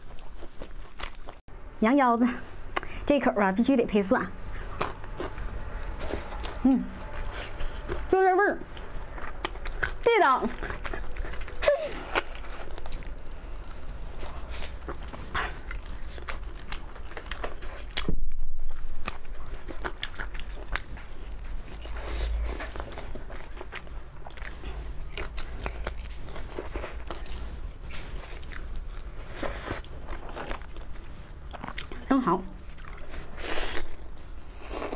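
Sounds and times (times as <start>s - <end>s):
biting and chewing meat: 4.4s - 34.9s.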